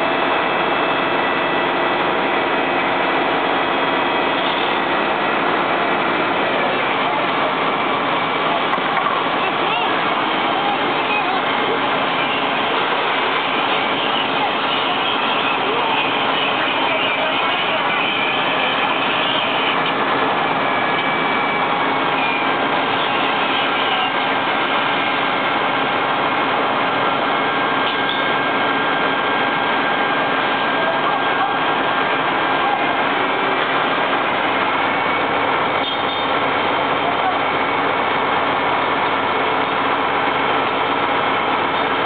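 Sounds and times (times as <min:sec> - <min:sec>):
fire engine motors and pumps: 0:00.0 - 0:42.0.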